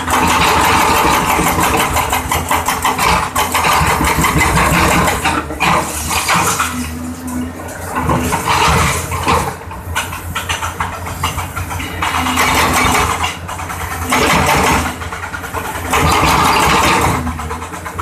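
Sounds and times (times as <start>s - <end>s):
hydraulic breaker hammering concrete: 0.0s - 6.9s, 7.9s - 18.0s
diesel engine running: 0.0s - 18.0s.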